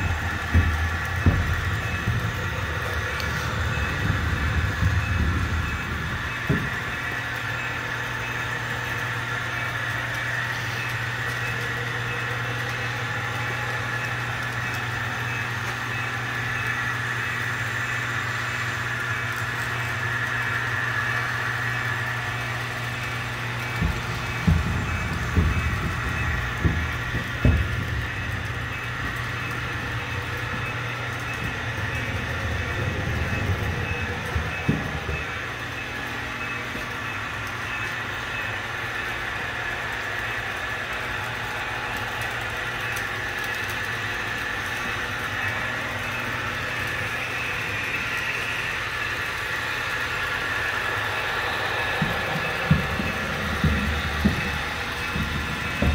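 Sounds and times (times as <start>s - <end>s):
high whine: 0.0s - 55.9s
model trains mechanical hum: 0.0s - 55.9s.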